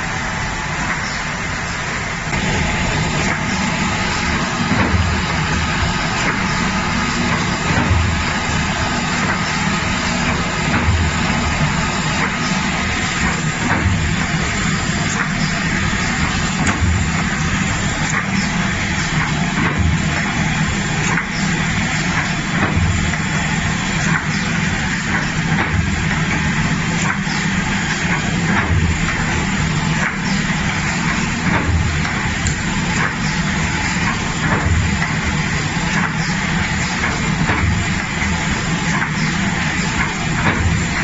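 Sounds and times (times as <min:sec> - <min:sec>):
die-cutting machine clatter and hum: 0:00.0 - 0:41.0
machine thump and clicks: 0:04.2 - 0:15.4, 0:16.2 - 0:20.4, 0:21.0 - 0:23.3, 0:24.0 - 0:41.0.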